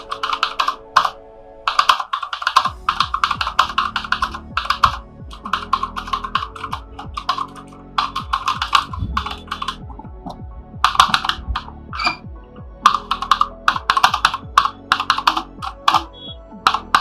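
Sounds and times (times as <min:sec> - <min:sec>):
clicky mechanical keyboard typing: 0:00.0 - 0:12.2, 0:12.8 - 0:17.0
music: 0:00.0 - 0:17.0.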